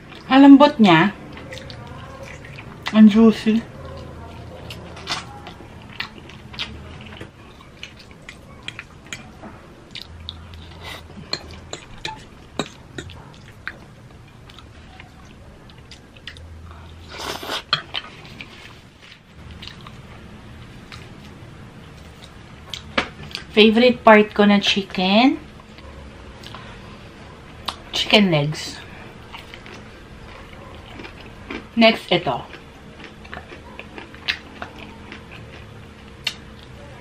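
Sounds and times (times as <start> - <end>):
chewing crispy fried chicken: 1.2 - 23.5, 28.8 - 37.0.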